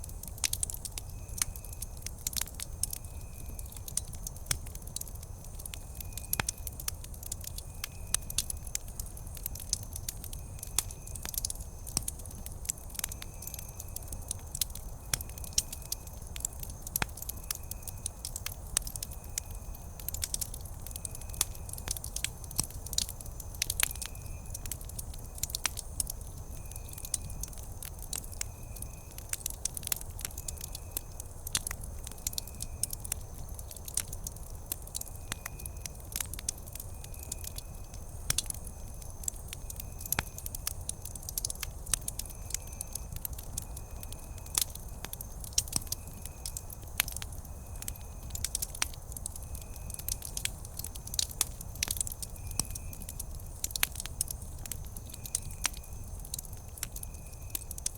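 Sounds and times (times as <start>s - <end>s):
campfire crackling: 0.0s - 57.9s
low rumble of burning fire: 0.0s - 57.9s
sharp pops and snaps of fire: 0.0s - 57.9s.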